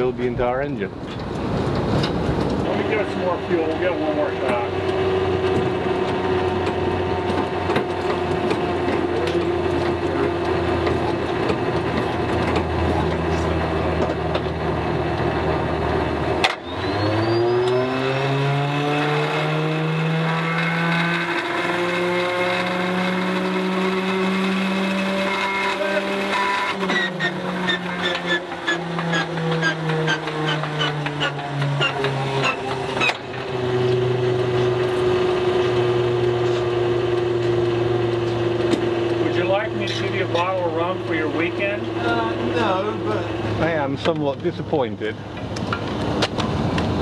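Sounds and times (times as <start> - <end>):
radial aircraft engine running unevenly: 0.9 - 18.7, 21.1 - 47.0.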